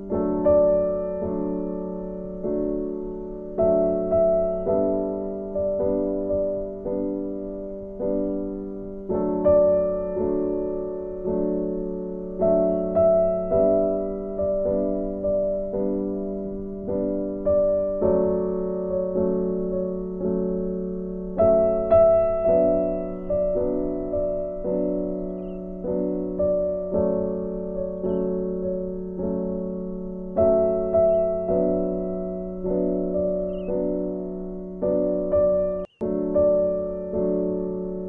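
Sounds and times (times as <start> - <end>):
slow solo piano: 0.0 - 38.0.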